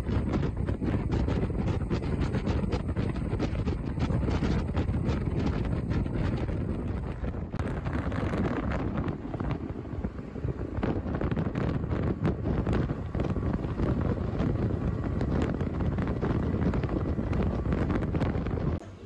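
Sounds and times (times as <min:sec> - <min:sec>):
wind buffeting a microphone: 0:00.0 - 0:18.8.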